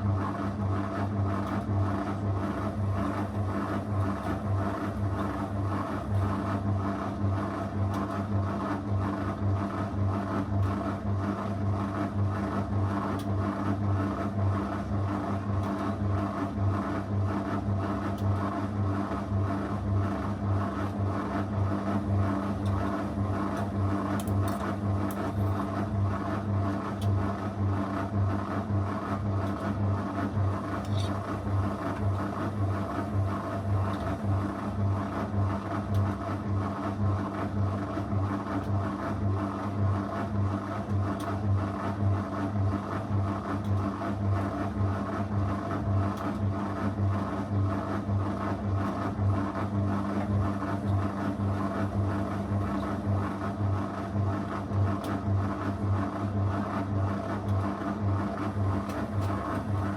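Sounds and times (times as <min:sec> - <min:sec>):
washing machine motor humming: 0:00.0 - 0:59.9.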